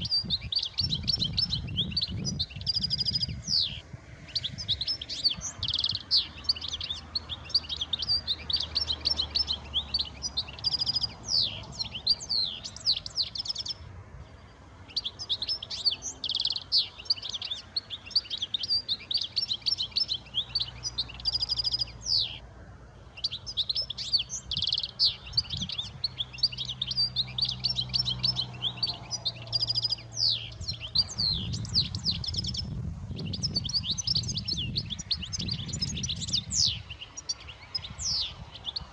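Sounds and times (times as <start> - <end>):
goldfinches twittering: 0.0 - 22.4, 23.1 - 38.9.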